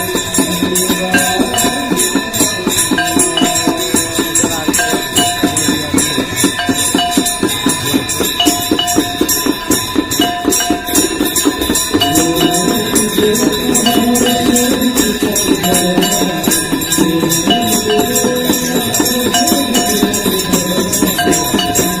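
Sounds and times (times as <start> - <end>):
devotional melody: 0.0 - 22.0
hand bells and metal percussion: 0.0 - 22.0
steady ringing tones: 0.0 - 22.0.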